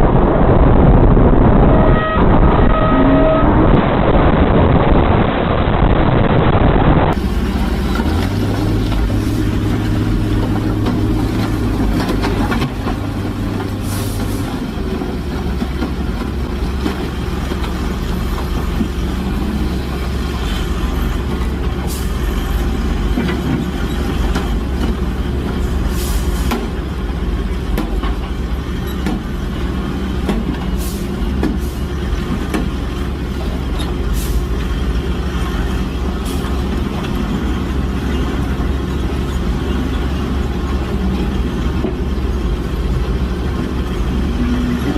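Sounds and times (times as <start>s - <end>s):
heavy vehicle engine droning: 0.0s - 44.9s.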